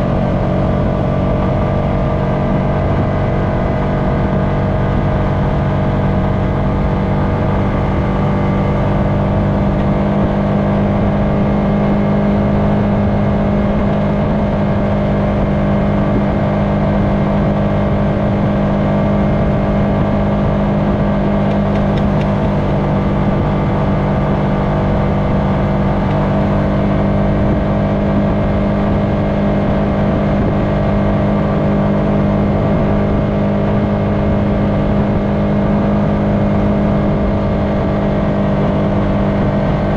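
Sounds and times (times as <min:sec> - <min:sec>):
quad bike engine droning: 0:00.0 - 0:39.9.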